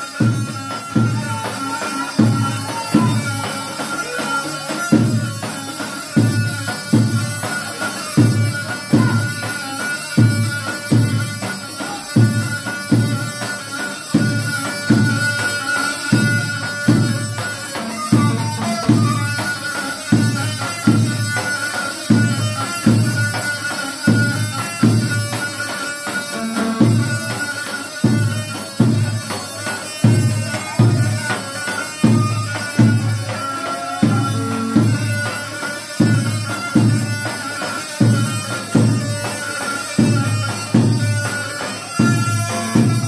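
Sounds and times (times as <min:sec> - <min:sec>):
shrill reed pipe melody: 0:00.0 - 0:43.0.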